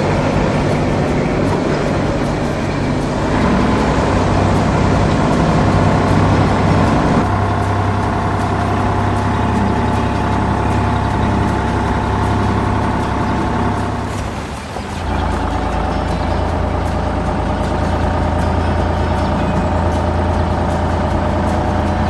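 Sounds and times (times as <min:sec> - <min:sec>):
heavy truck engine running: 0:00.0 - 0:22.0.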